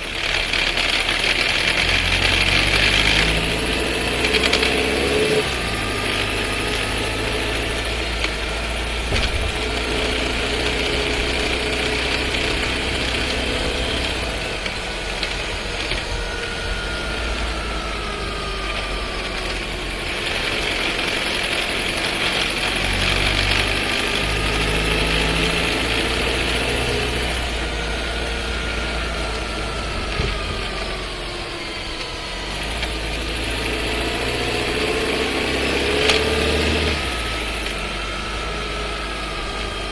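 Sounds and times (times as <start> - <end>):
car interior driving noise: 0.0 - 39.9
transmission rattle: 0.0 - 39.9.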